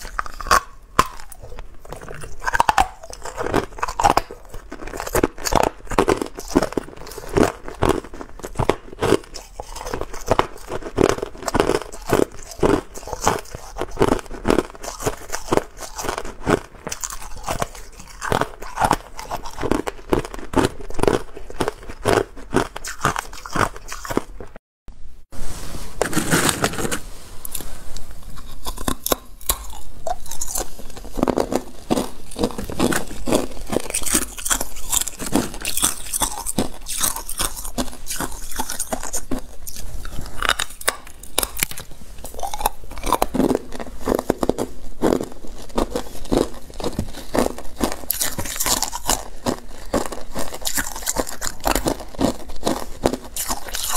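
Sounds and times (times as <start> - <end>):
ice being chewed: 0.0 - 24.6, 26.0 - 53.9.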